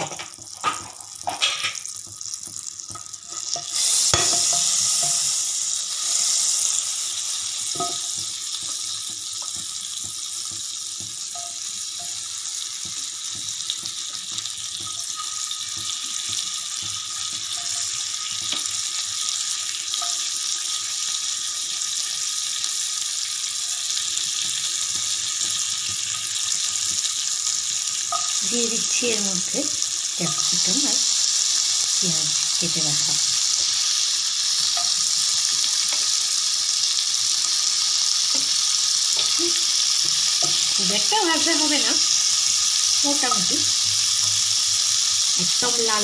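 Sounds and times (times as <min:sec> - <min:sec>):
onion sizzling in butter: 0:00.0 - 0:46.0.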